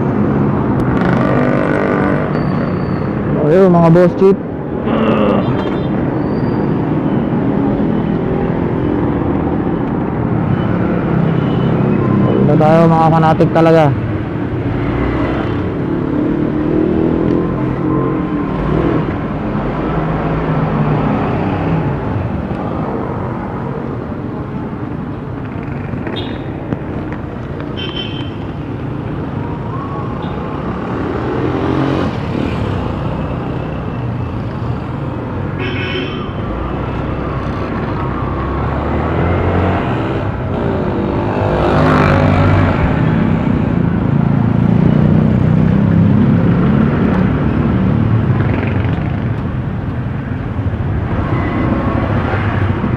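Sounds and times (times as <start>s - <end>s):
scooter engine and road noise: 0.0s - 52.9s
vehicles passing: 0.0s - 52.9s.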